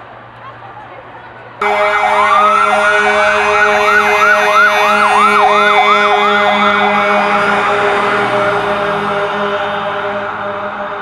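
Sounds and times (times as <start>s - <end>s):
police siren wailing and yelping: 1.6s - 11.0s.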